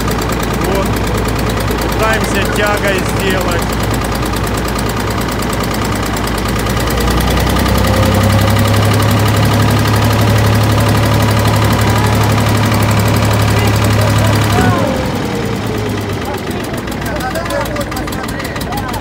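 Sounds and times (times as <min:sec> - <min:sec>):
winch engine running: 0:00.0 - 0:19.0.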